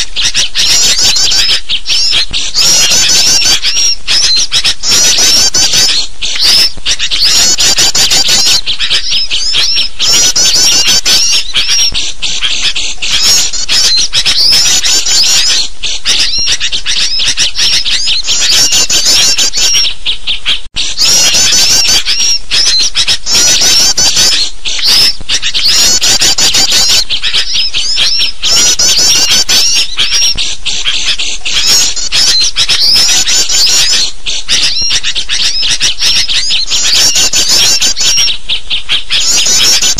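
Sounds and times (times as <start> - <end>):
bulbuls chattering calls: 0.0 - 39.9
small songbirds: 0.0 - 39.9.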